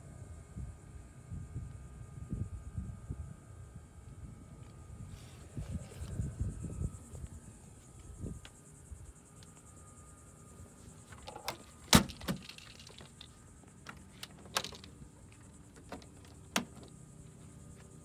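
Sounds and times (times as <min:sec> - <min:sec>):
insects humming: 0:00.1 - 0:18.0.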